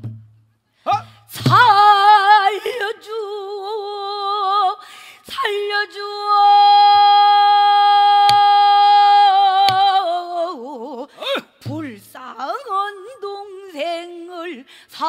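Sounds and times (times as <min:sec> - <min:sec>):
woman singing with vibrato: 0:00.9 - 0:15.0.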